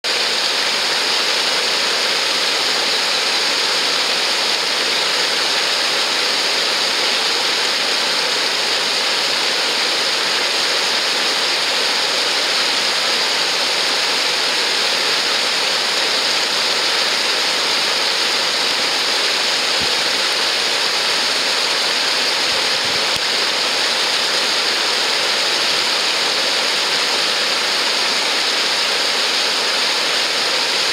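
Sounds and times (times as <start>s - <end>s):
river water over weir: 0.0s - 30.9s.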